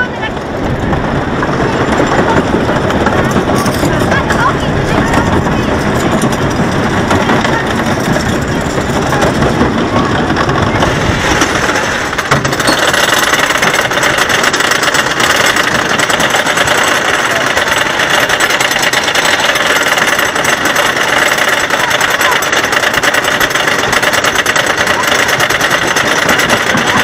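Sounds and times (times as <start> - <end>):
roller coaster chain lift clatter: 0.0 - 27.0.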